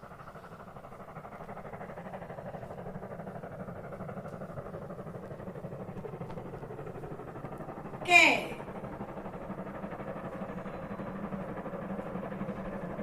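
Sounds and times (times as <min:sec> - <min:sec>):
mechanical hum with flutter: 0:00.0 - 0:13.0.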